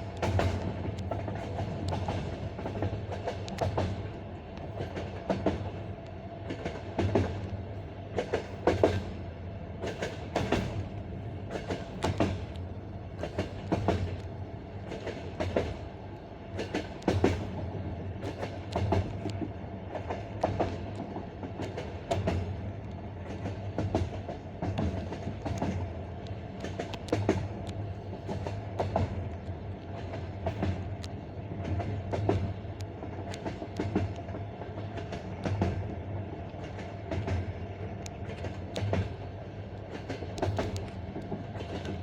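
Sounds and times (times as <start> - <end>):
train wheels clattering over rail joints: 0.0 - 4.1, 8.1 - 9.2, 9.8 - 14.2, 14.8 - 15.8, 16.5 - 29.3, 29.9 - 42.0
train rolling rumble: 0.0 - 42.0.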